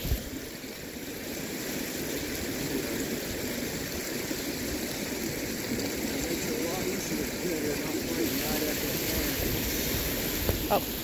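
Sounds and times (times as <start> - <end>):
creek rushing: 0.0 - 11.0.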